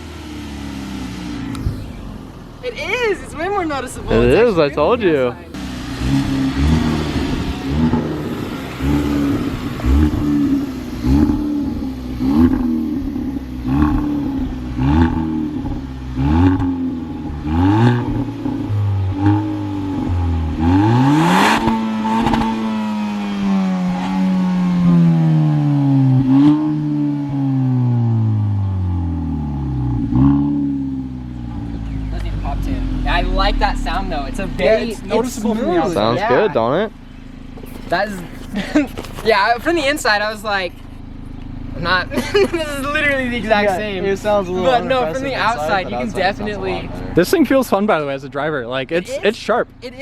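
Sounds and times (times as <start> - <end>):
car exhaust revving with cracks: 0.0 - 49.9.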